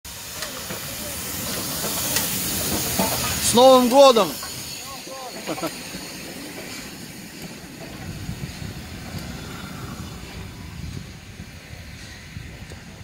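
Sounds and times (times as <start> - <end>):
train wheels rumbling on rails: 0.1 - 13.0.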